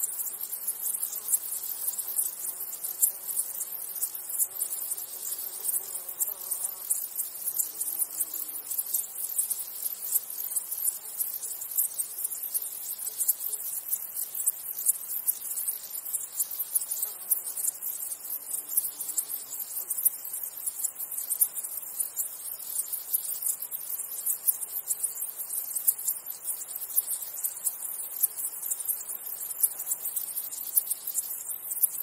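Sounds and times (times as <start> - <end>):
grasshoppers chirring: 0.0 - 32.0.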